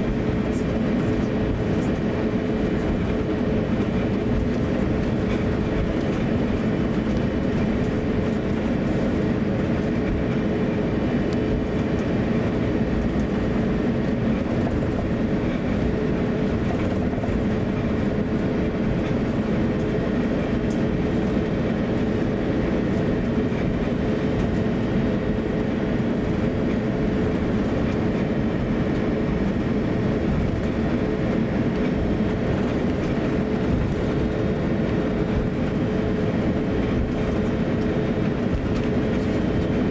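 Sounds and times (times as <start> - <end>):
jet engines rumbling: 0.0 - 39.9
mid-pitched hum: 0.0 - 39.9.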